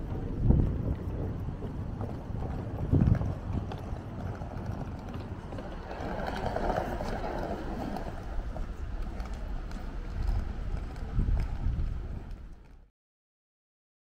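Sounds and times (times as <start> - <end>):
passing traffic: 0.0 - 12.9
wind buffeting microphone: 0.0 - 12.9.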